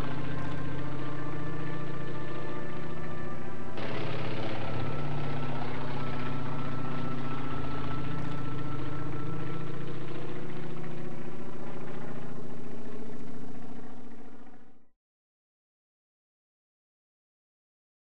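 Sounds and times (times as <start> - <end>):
propeller plane engine droning: 0.0 - 14.9.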